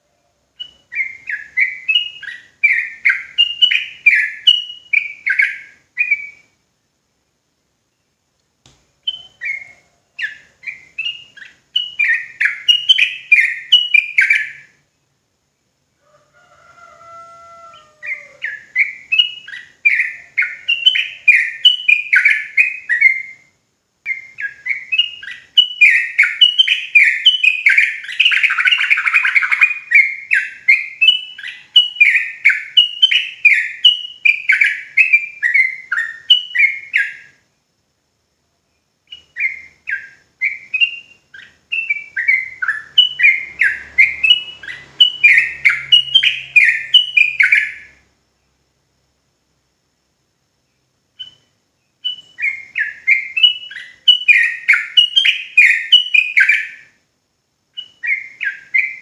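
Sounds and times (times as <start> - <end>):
bird singing rapid rolling song: 0.5 - 6.6, 9.0 - 15.7, 17.0 - 37.6, 38.8 - 48.6, 50.7 - 57.0, 57.7 - 59.0.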